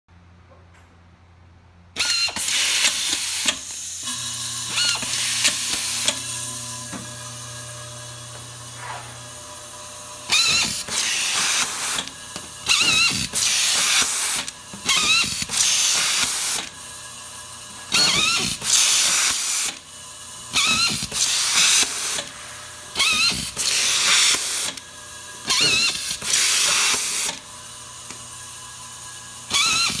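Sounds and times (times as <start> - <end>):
screwdriver motor spinning: 2.0 - 30.0
vibratory bowl feeder humming: 2.0 - 30.0.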